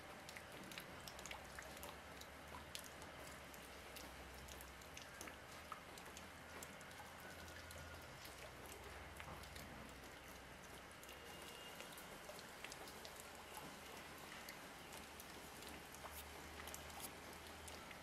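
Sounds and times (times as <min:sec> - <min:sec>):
water drops ticking: 0:00.1 - 0:18.0.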